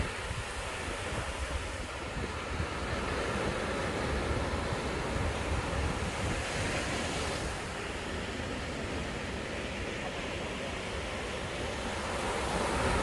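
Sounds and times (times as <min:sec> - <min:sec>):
sea waves breaking on beach: 0:00.0 - 0:13.0.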